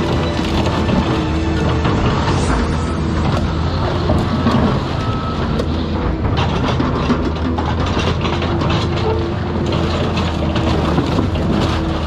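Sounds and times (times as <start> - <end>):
diesel excavator engine running: 0.0 - 12.0
metal clanks and crunches: 0.0 - 12.0.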